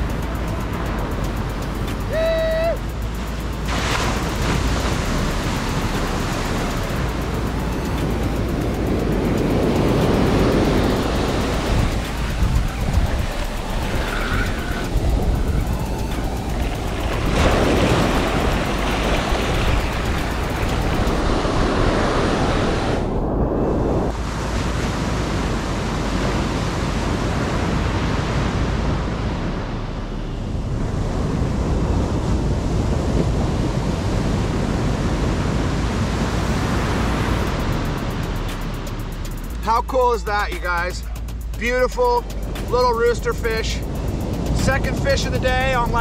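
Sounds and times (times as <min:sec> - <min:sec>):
ocean surf breaking on beach: 0:00.0 - 0:46.0.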